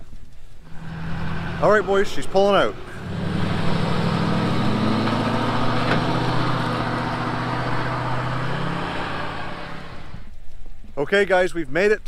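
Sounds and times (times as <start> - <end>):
pickup truck engine running: 0.6 - 10.3.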